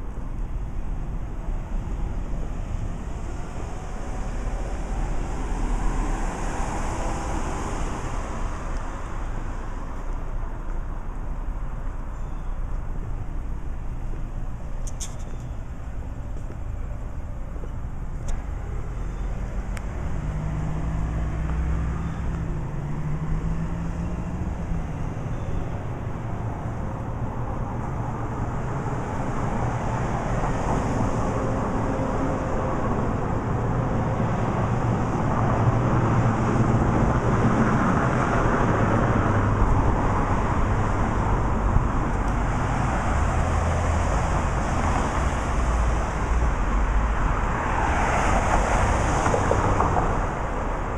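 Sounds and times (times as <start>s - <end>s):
cars passing on road: 0.0s - 50.9s.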